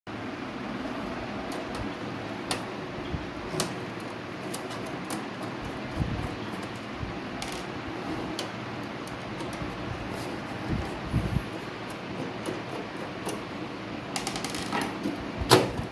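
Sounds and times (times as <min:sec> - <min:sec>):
fan hum: 0:00.1 - 0:15.9.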